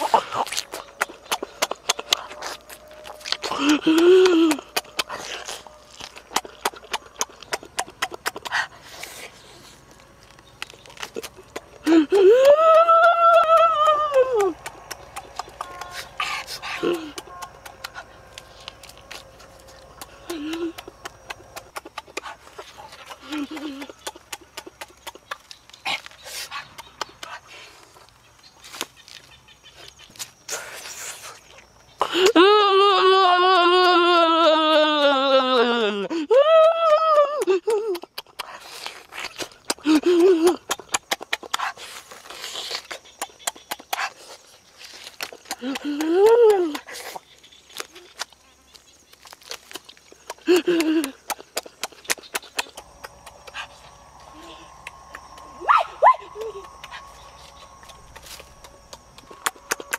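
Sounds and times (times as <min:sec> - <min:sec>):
person chewing and lip-smacking: 0:00.0 - 0:28.2, 0:36.6 - 0:59.9.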